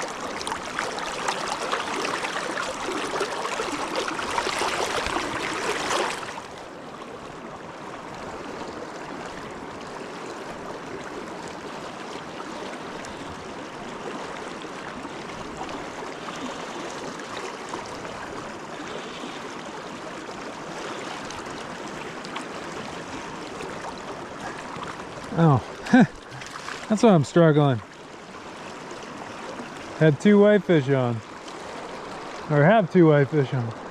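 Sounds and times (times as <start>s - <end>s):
river water running: 0.0s - 33.9s.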